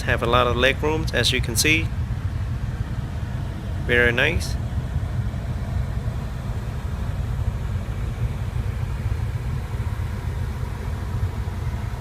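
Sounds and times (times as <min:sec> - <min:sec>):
car engine idling rumble: 0:00.0 - 0:12.0.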